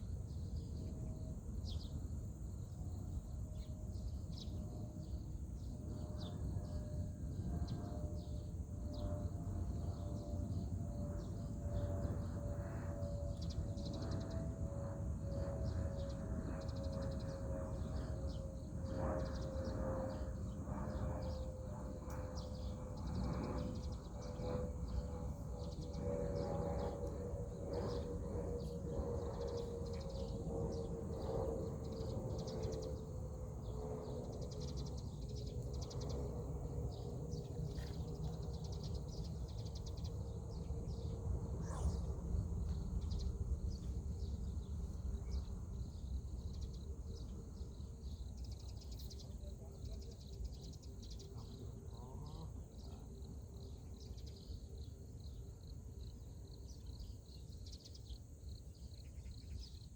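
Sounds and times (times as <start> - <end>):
steady low rumble: 0.0 - 50.2
birds and insects chirping: 0.0 - 59.9
faint distant drone: 0.0 - 59.9.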